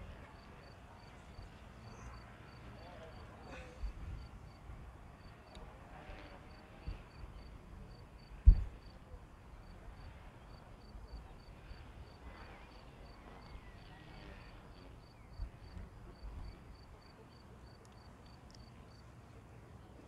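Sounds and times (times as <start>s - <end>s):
faint outdoor hiss: 0.0s - 20.0s.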